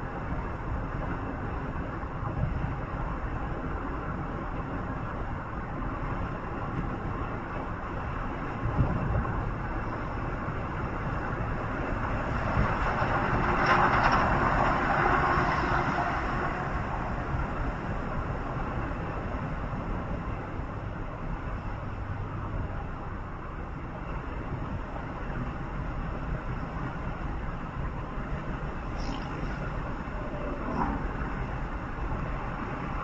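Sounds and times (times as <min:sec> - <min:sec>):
moving vehicle rumble: 0:00.0 - 0:33.0.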